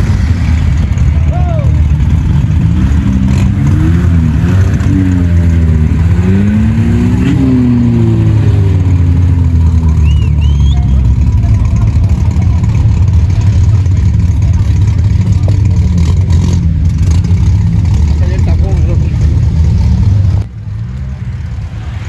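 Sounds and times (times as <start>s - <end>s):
low rumble: 0.0s - 22.0s
vehicle engine revving: 0.0s - 22.0s.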